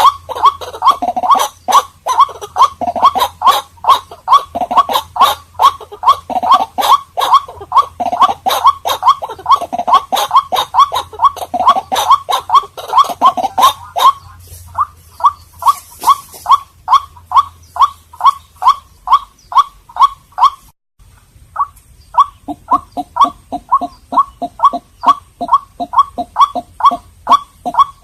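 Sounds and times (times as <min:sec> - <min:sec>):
bird calling hoarse kwak notes: 0:00.0 - 0:20.7, 0:21.5 - 0:28.0.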